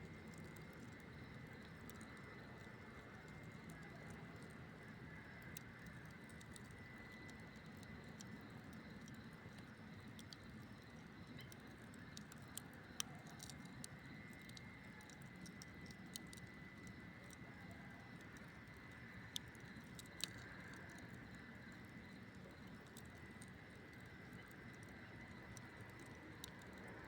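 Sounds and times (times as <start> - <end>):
campfire hissing and crackling: 0.0 - 27.0.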